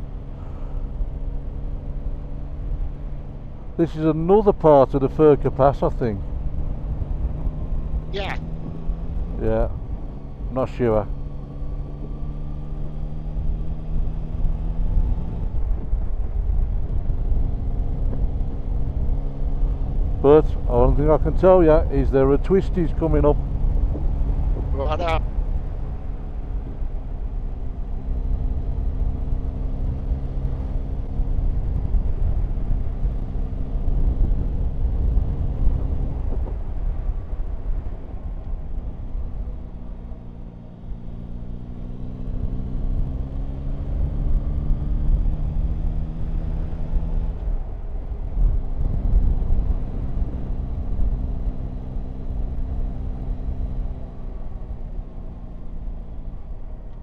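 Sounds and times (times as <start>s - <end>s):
wind and road rush: 0.0s - 57.0s.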